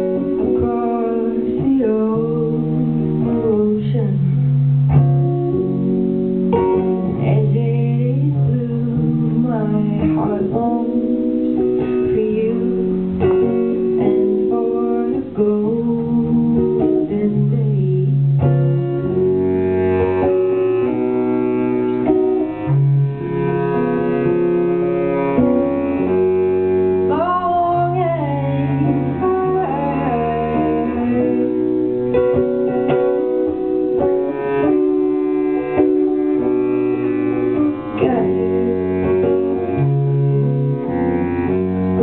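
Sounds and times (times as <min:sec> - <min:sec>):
bass clarinet low notes: 0:00.0 - 0:42.0
electric guitar: 0:00.0 - 0:42.0.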